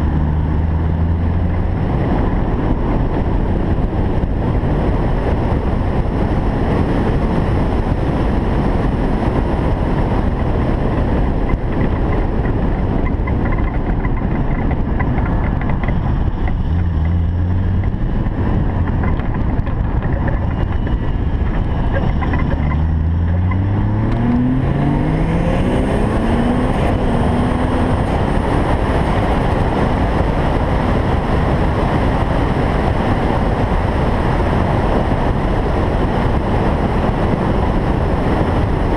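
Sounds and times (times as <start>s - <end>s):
car engine accelerating: 0.0s - 38.9s
wind and road noise: 0.0s - 38.9s.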